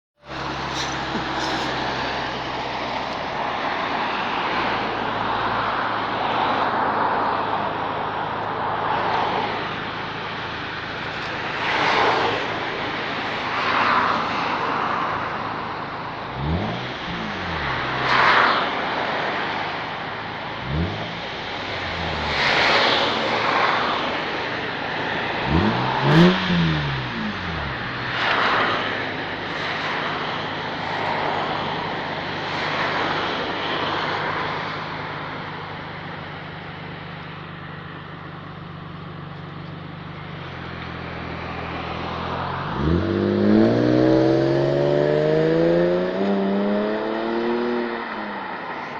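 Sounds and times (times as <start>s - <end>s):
car engine idling and revving: 0.2s - 48.9s.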